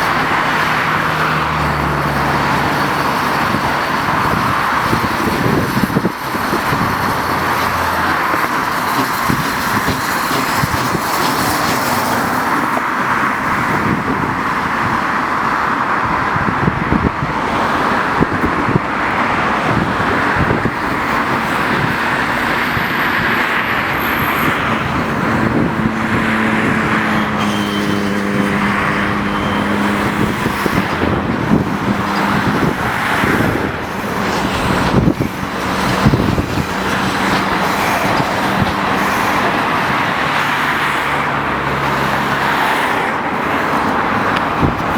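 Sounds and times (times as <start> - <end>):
heavy road traffic: 0.0 - 44.9.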